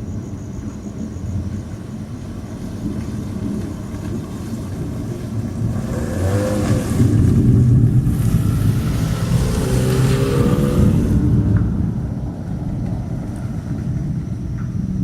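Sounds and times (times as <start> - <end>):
thunderstorm rumble: 0.0 - 15.0.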